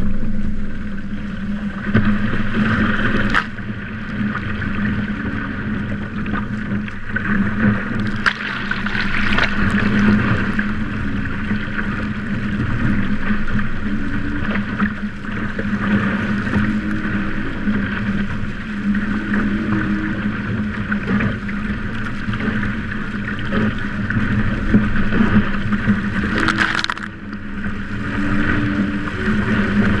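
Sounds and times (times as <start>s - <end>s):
steady low hum: 0.0s - 30.0s
water rushing along a hull: 0.0s - 30.0s
wind on microphone: 0.0s - 30.0s.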